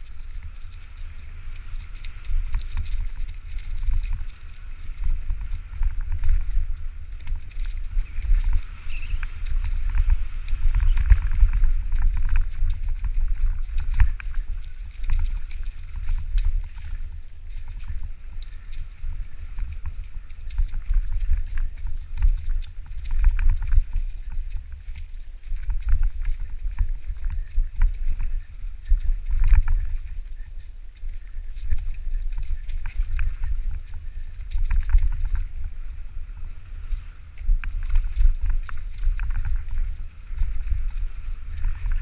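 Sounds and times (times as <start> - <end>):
bike rattling and clicking: 0.0 - 42.0
wind buffeting microphone: 0.0 - 42.0.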